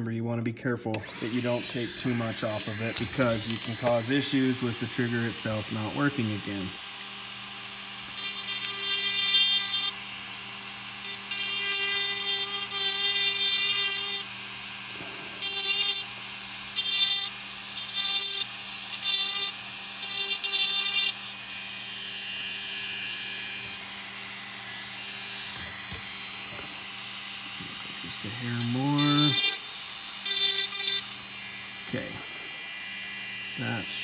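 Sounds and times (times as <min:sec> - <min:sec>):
rotary tool grinding metal: 0:00.9 - 0:34.0
rotary tool motor humming: 0:01.0 - 0:34.0.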